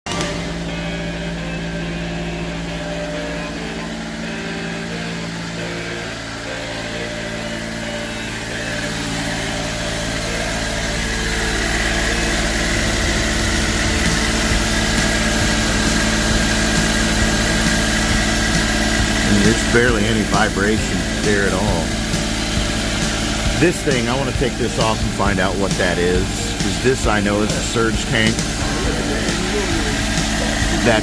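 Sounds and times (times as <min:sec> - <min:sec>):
van engine idling: 0:00.1 - 0:31.0.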